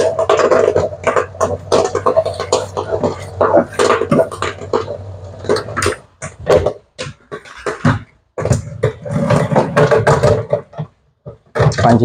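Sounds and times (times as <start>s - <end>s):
popcorn popping: 0.0s - 12.0s.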